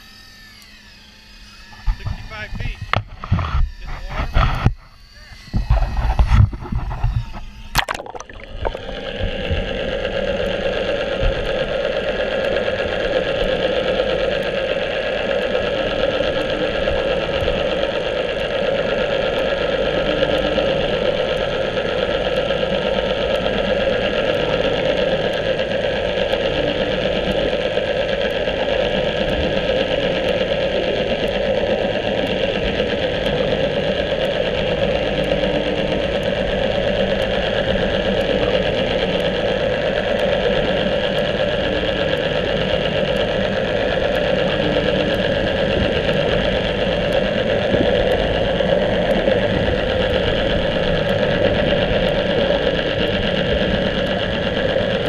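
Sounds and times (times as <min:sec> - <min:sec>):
faint regular ticks: 0:00.0 - 0:55.0
muffled boat engine underwater: 0:00.0 - 0:55.0.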